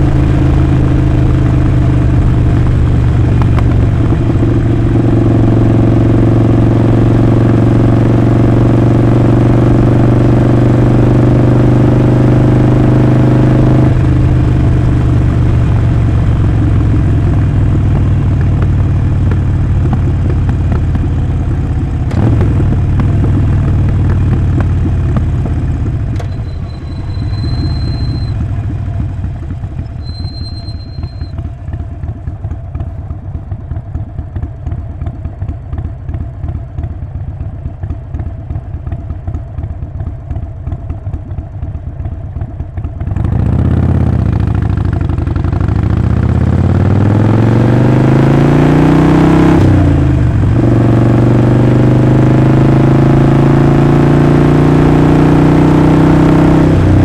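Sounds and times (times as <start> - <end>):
motorcycle engine running and idling: 0.0 - 57.0.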